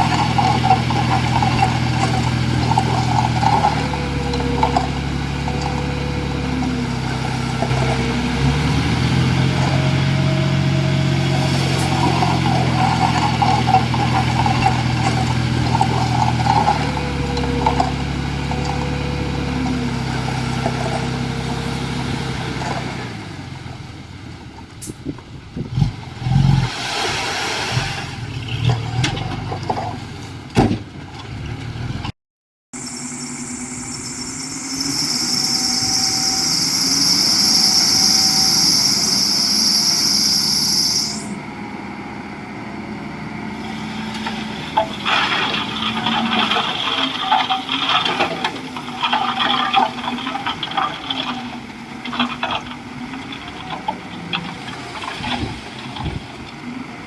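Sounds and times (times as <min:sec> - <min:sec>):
bulldozer diesel engine under load: 0:00.0 - 0:32.1, 0:32.8 - 0:57.0.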